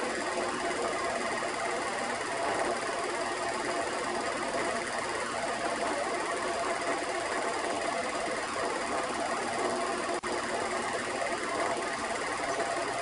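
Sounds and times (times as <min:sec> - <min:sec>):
faint steady tones: 0:00.0 - 0:13.0
film projector running: 0:00.0 - 0:13.0.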